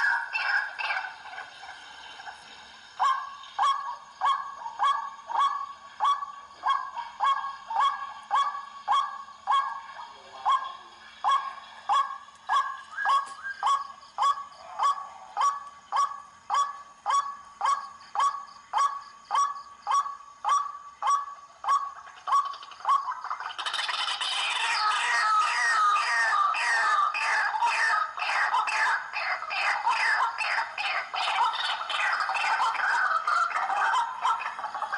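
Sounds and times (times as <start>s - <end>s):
waterhen calling: 0.0s - 34.9s.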